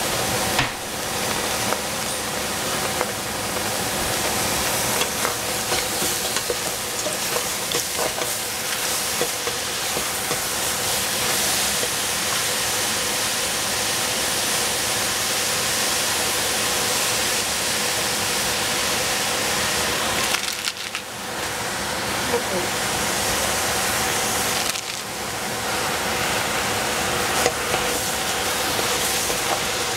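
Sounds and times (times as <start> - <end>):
food sizzling in hot pan: 0.0 - 29.9.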